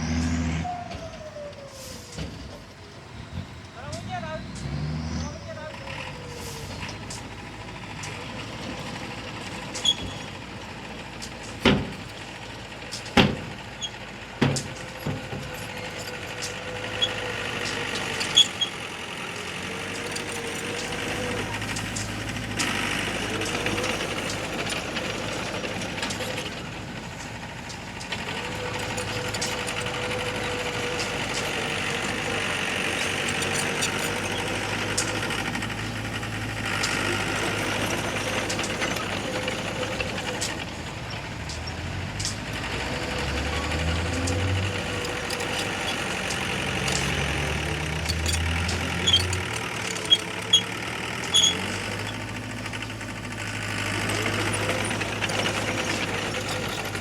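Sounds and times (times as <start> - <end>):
diesel engine whining: 0.0 - 57.0.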